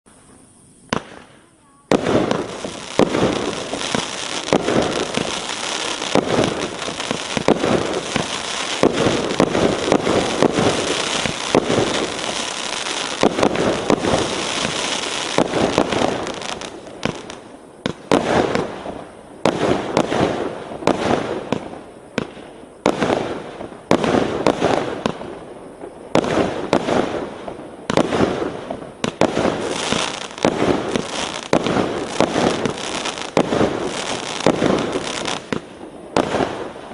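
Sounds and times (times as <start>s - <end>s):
fireworks bangs: 0.3s - 36.9s.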